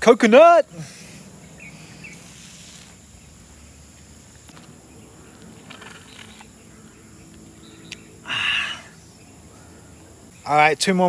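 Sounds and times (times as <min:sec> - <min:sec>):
birds: 0:00.0 - 0:11.0
insects: 0:00.0 - 0:11.0
soft rush of noise: 0:00.2 - 0:10.8.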